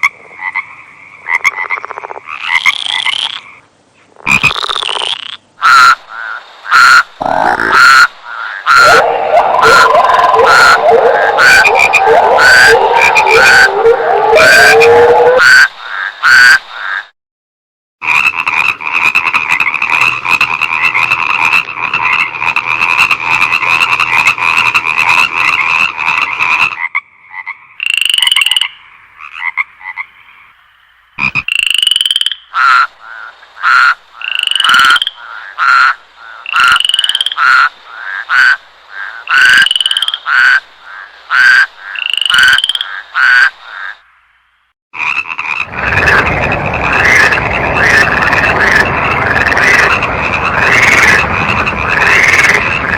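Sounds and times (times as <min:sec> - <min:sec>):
frogs chorus: 0:00.0 - 0:03.6, 0:04.2 - 0:17.1, 0:18.0 - 0:44.1, 0:45.0 - 0:52.9
frog croaks rising in pitch: 0:04.2 - 0:17.1, 0:18.0 - 0:30.6, 0:31.2 - 0:44.1, 0:45.0 - 0:52.9.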